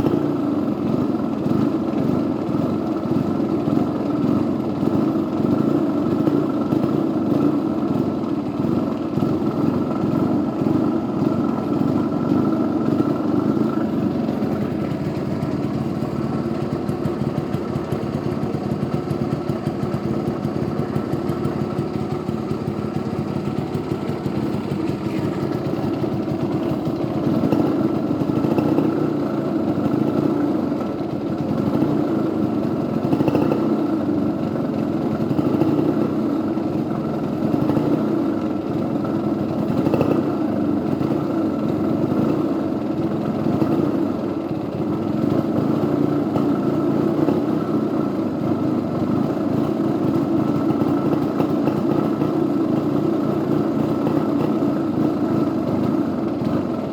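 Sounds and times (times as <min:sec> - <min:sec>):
small two-stroke engine idling: 0:00.0 - 0:56.9.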